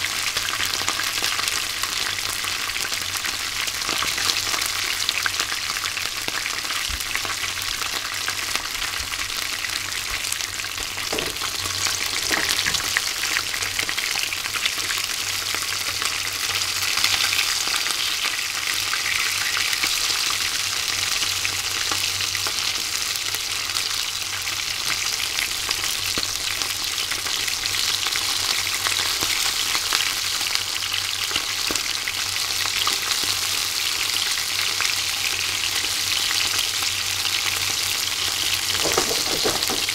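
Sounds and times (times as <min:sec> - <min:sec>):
fish deep-frying in oil: 0:00.0 - 0:39.9.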